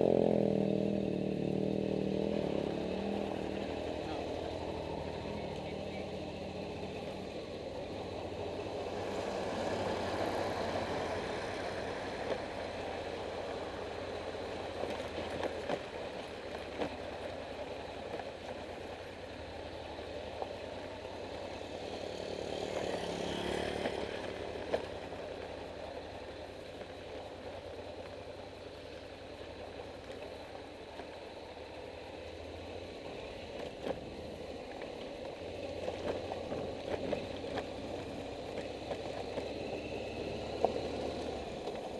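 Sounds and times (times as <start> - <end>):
road and wind noise: 0.0 - 41.9
vehicle engine running: 0.0 - 41.9.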